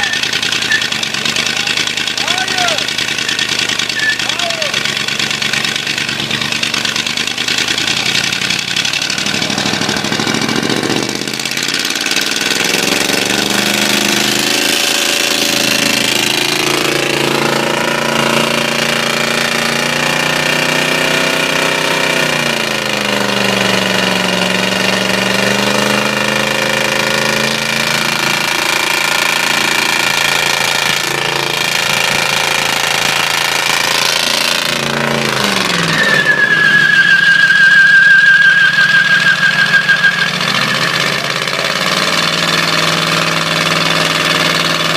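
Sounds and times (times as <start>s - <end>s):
engine knocking: 0.0s - 36.4s, 39.1s - 44.9s
engine revving: 0.0s - 44.9s.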